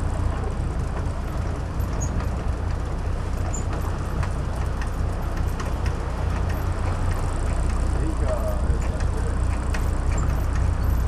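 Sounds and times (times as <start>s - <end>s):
boat engines rumbling: 0.0s - 11.0s
wind: 0.0s - 11.0s.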